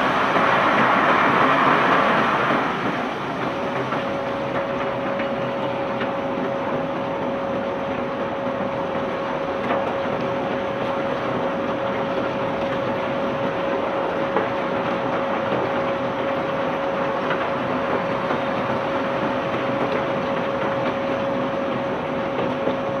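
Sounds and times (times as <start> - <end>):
machinery clattering with whine: 0.0 - 23.0.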